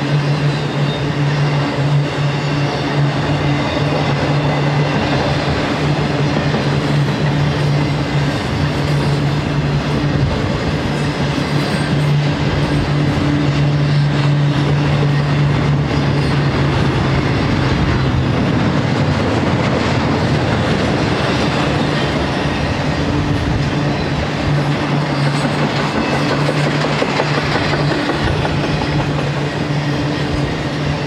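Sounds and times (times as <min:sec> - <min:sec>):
freight cars rolling on rails: 0:00.0 - 0:31.0.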